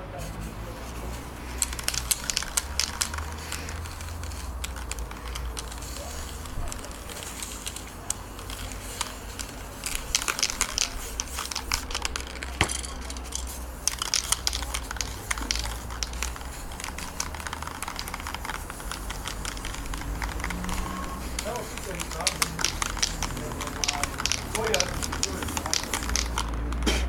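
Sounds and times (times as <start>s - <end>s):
paper crinkling and crackling: 0.2s - 27.0s.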